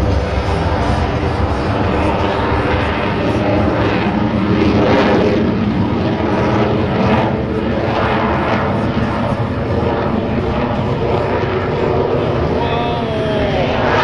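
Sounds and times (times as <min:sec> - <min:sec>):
jet roar passing: 0:00.0 - 0:14.0.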